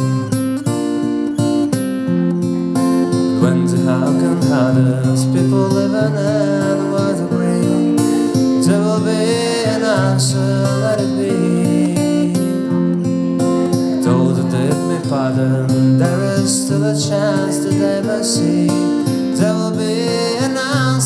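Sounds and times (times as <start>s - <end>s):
acoustic guitar strumming chords: 0.0s - 21.0s
man singing: 3.0s - 21.0s.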